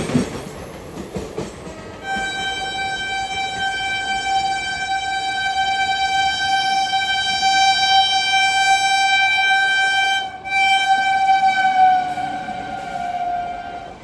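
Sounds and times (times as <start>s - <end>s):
locomotive horn blast: 2.0s - 14.0s.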